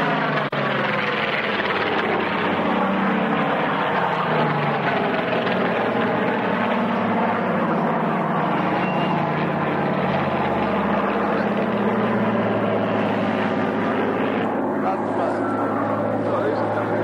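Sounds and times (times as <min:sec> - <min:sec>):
propeller aircraft engine droning: 0:00.0 - 0:17.0.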